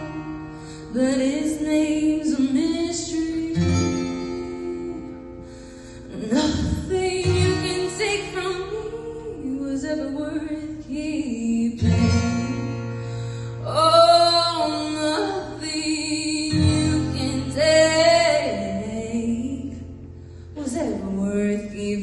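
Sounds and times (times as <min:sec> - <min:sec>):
plucked acoustic guitar: 0:00.0 - 0:22.0
woman singing a slow ballad: 0:00.0 - 0:22.0.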